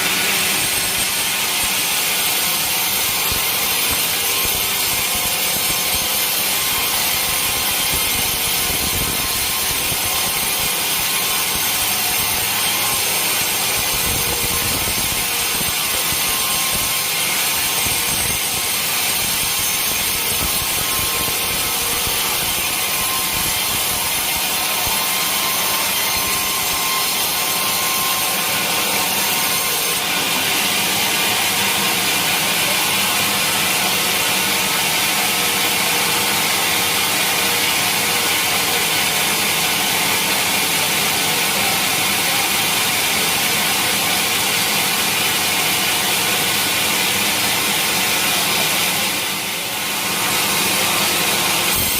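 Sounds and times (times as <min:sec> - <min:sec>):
saw cutting through log: 0:00.0 - 0:51.9.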